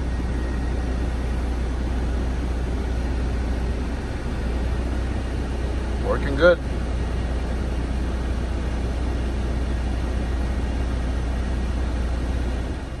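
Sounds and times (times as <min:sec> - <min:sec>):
blower motor running: 0:00.0 - 0:13.0
low hum: 0:00.0 - 0:13.0.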